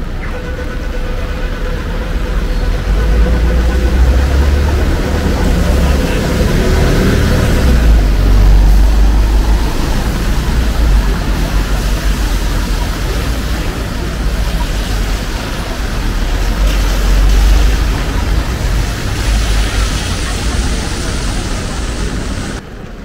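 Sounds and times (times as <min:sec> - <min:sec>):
deep low rumble: 0:00.0 - 0:22.6
vehicles passing: 0:00.0 - 0:23.0.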